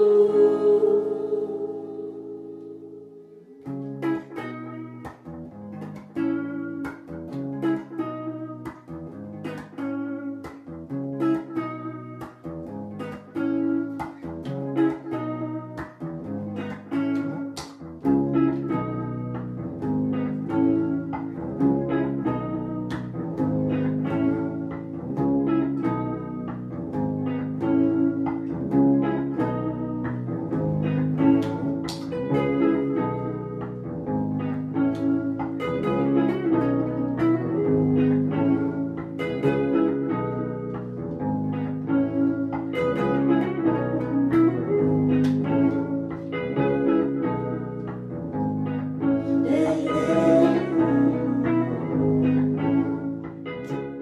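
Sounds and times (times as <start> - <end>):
low musical part: 0.0 - 10.2, 18.0 - 54.0
picked notes: 0.0 - 54.0.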